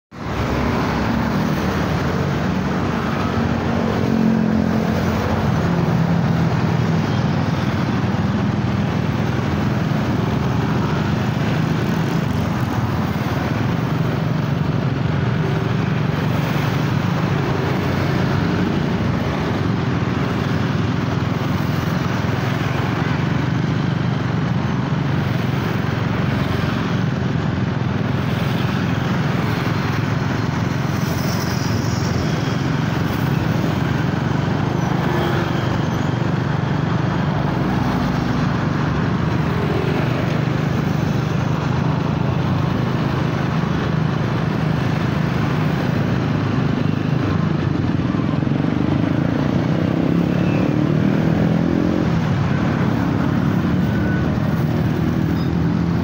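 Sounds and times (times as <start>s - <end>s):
surrounding motorcycle engines: 0.1s - 56.0s
wind and road noise: 0.1s - 56.0s.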